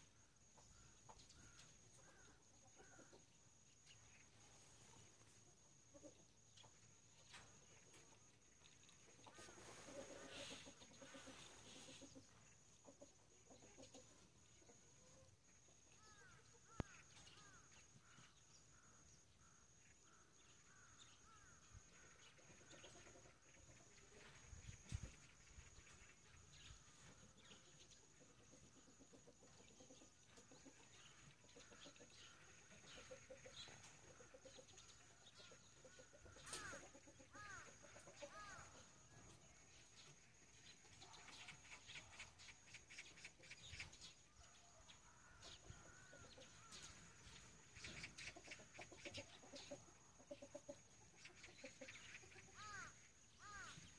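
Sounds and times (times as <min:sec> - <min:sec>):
chickens clucking: 0:00.0 - 0:17.3, 0:22.3 - 0:52.6.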